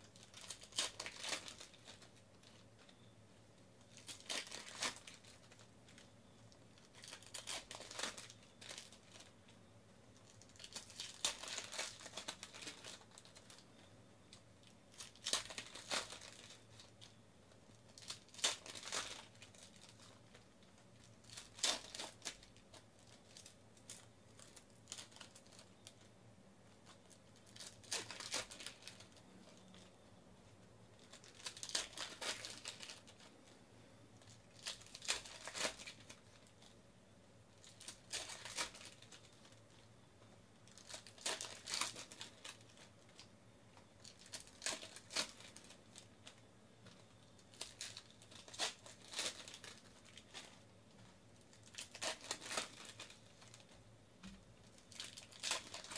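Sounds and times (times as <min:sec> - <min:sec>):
foil wrappers crinkling and tearing: 0:00.0 - 0:03.0, 0:03.8 - 0:06.1, 0:06.7 - 0:09.4, 0:10.2 - 0:17.2, 0:17.8 - 0:26.1, 0:26.8 - 0:29.9, 0:30.9 - 0:33.6, 0:34.2 - 0:36.8, 0:37.5 - 0:39.9, 0:40.6 - 0:43.3, 0:44.0 - 0:53.8, 0:54.6 - 0:55.9.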